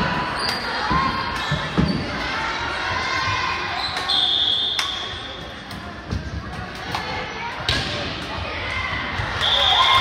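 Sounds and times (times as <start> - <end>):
spectators' voices: 0.0 - 10.0.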